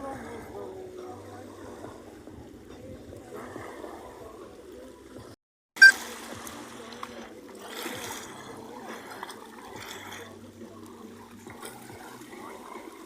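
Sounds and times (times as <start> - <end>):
small waves lapping at shore: 0.0 - 13.0.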